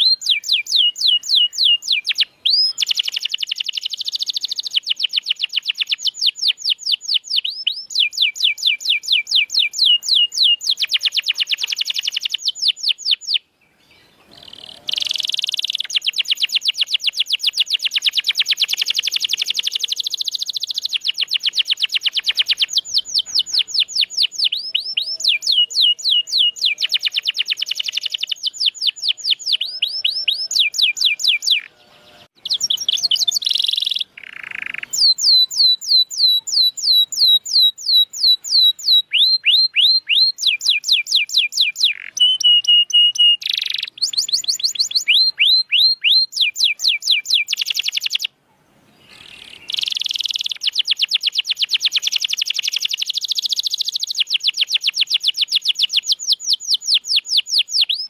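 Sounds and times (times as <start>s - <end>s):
canary singing: 0.0s - 48.4s, 49.0s - 58.0s.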